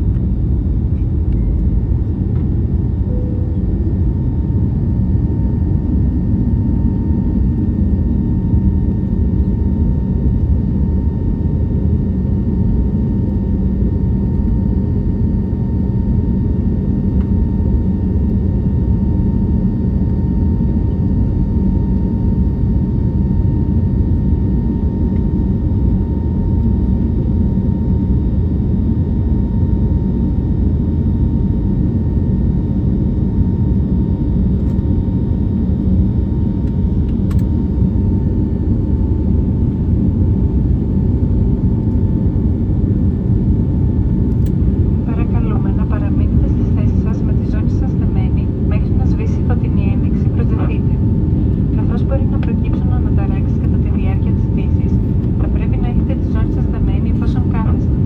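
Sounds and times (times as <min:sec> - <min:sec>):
faint steady whine: 0:00.0 - 0:32.1, 0:32.8 - 0:58.0
aircraft cabin engine rush: 0:00.0 - 0:58.0.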